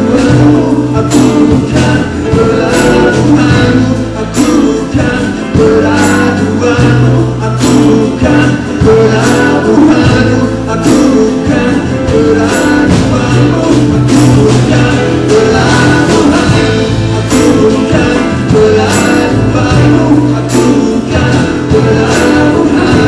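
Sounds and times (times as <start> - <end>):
live band playing: 0.0 - 23.0
splashy percussion accent: 0.0 - 23.0.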